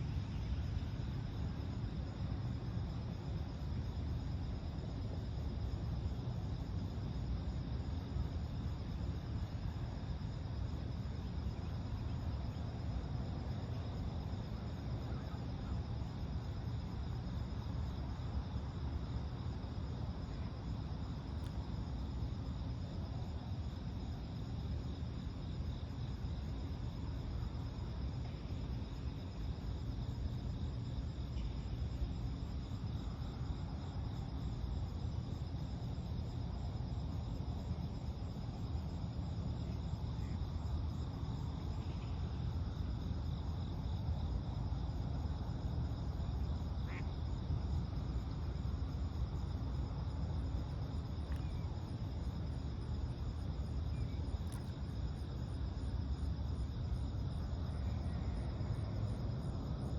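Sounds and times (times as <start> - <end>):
constant low rumble: 0.0 - 59.9
crickets chirping: 0.0 - 59.9.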